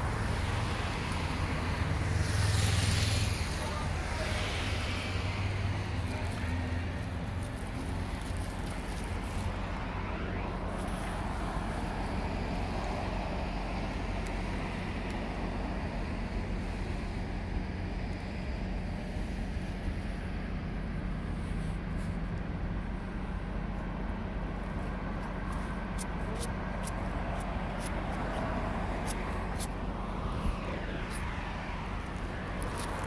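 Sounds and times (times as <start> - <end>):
ship engine drone: 0.0 - 33.0.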